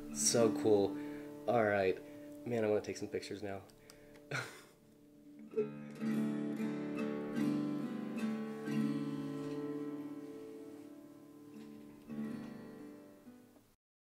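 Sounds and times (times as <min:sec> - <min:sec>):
acoustic guitar chords: 0:00.0 - 0:13.7.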